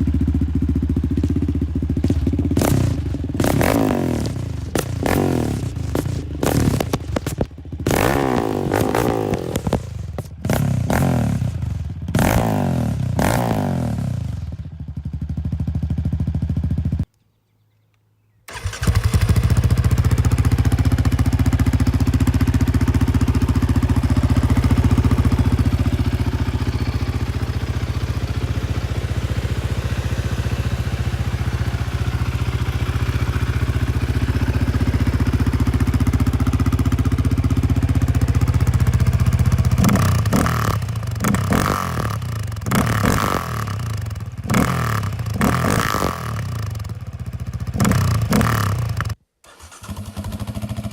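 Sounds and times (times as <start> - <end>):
motorcycle engine revving: 0.0 - 17.1, 18.5 - 50.9.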